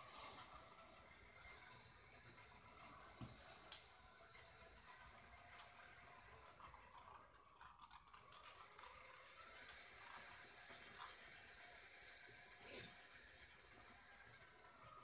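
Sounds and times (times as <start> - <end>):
faint toy motor whirr: 0.0 - 15.0.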